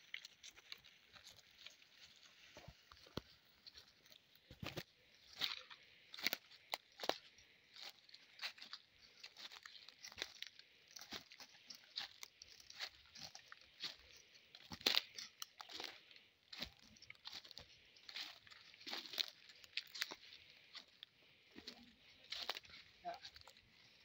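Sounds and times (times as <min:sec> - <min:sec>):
footsteps crunching dry leaves: 0:00.0 - 0:24.0.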